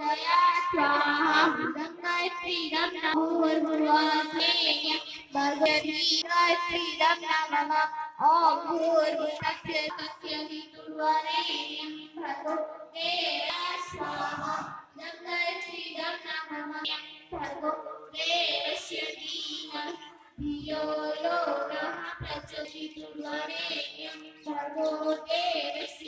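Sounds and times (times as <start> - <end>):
woman singing devotional song: 0.0 - 26.0.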